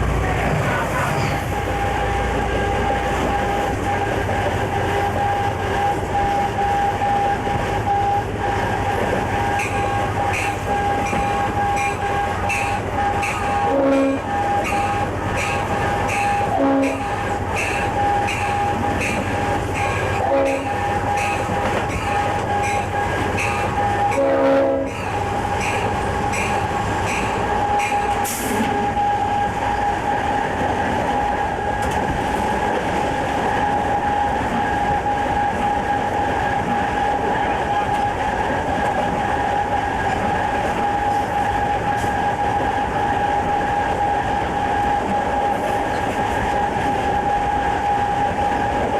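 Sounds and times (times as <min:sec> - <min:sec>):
freight train running: 0:00.0 - 0:48.9.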